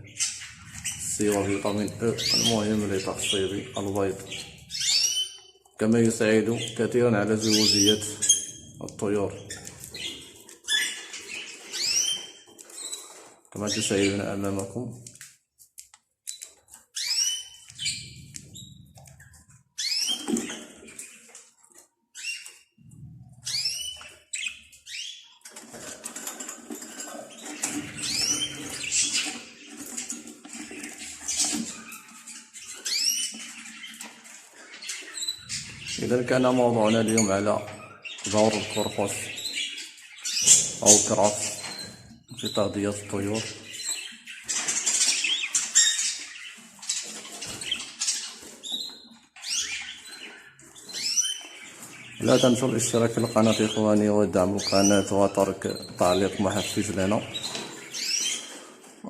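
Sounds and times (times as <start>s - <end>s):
budgerigars chirping: 0.0s - 14.6s, 16.8s - 58.9s.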